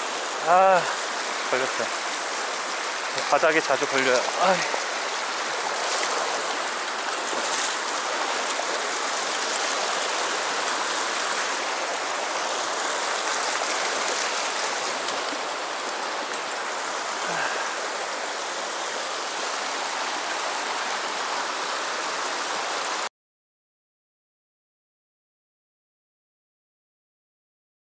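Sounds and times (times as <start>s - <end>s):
stream rushing over stones: 0.0s - 23.1s.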